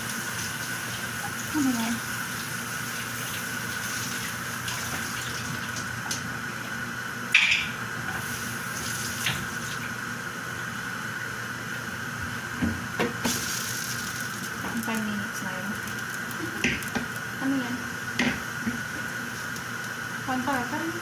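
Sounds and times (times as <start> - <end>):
constant high hum: 0.0 - 21.0
pot simmering with hiss: 0.0 - 21.0.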